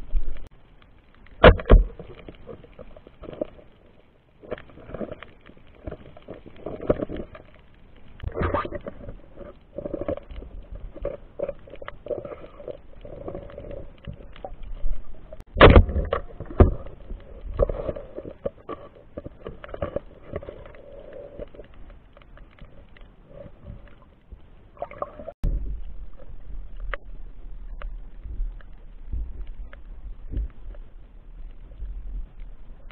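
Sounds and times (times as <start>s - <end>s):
underwater clicks and crackles: 0.0s - 32.9s.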